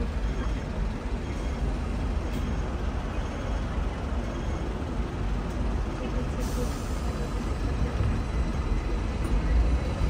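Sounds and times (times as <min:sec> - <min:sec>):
tram running on rails: 0:00.0 - 0:10.0.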